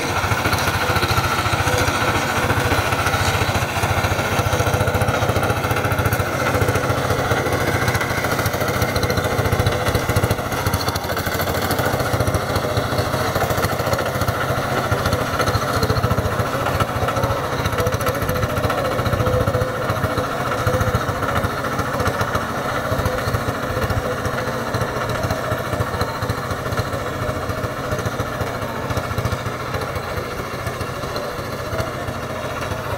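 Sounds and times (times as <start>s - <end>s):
hand tractor engine running: 0.0s - 32.9s
rotary tiller churning soil: 0.0s - 32.9s.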